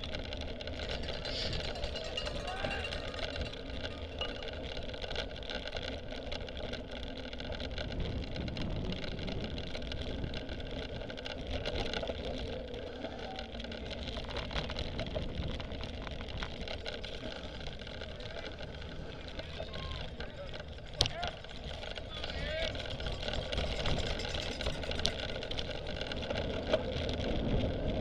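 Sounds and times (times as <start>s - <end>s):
bike rattles and clicks: 0.0s - 28.0s
wind and riding rumble: 0.0s - 28.0s.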